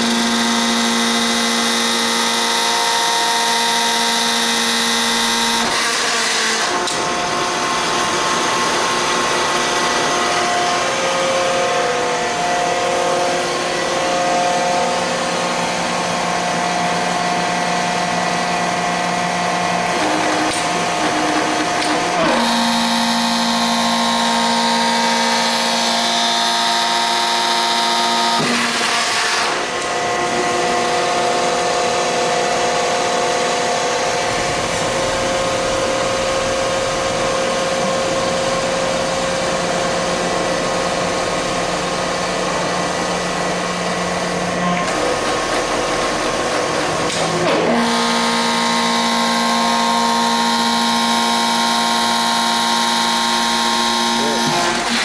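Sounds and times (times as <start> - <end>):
hydraulic pump motor humming: 0.0 - 55.0.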